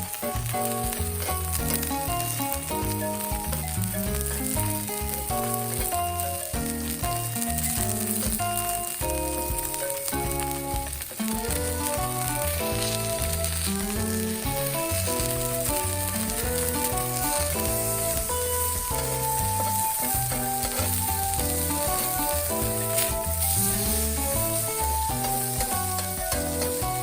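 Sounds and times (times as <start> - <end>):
background music with bass line: 0.0 - 27.0
food sizzling in a hot pan: 0.0 - 27.0.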